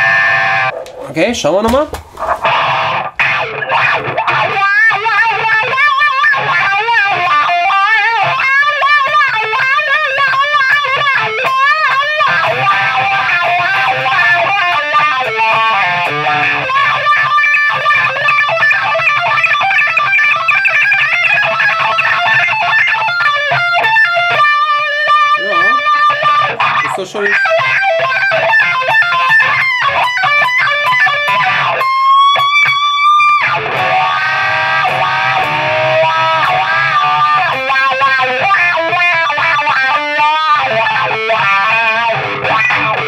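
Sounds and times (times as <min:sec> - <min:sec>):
electric guitar with wah pedal: 0:00.0 - 0:01.0, 0:02.2 - 0:43.0.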